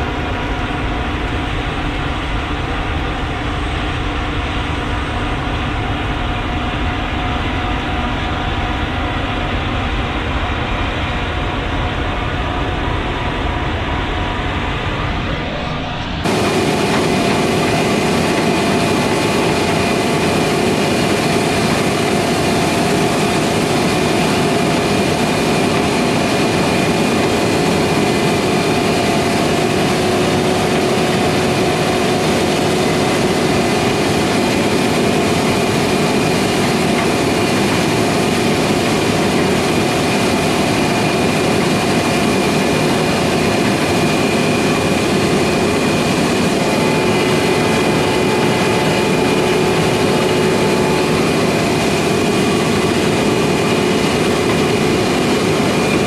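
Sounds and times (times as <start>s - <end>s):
machinery mechanical drone: 0.0s - 56.0s
steady whining tones: 0.0s - 56.0s.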